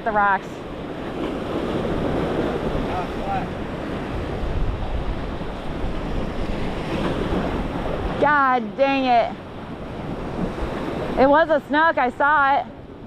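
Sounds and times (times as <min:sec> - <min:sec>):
surf on rocks: 0:00.0 - 0:13.0
wind buffeting microphone: 0:00.0 - 0:13.0.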